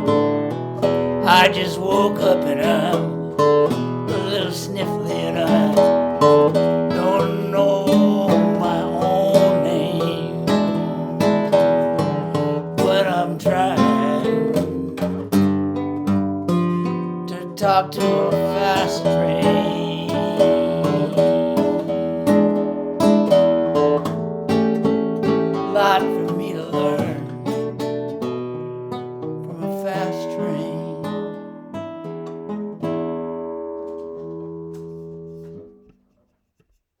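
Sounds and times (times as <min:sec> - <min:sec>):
acoustic guitar strumming: 0:00.0 - 0:36.0.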